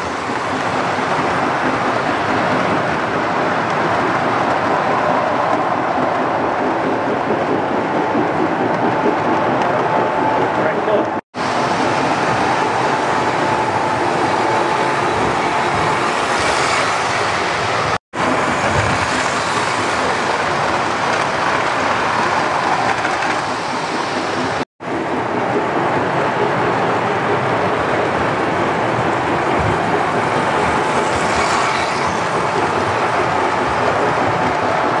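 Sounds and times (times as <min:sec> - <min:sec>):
toy trains rumbling and clattering: 0:00.0 - 0:35.0.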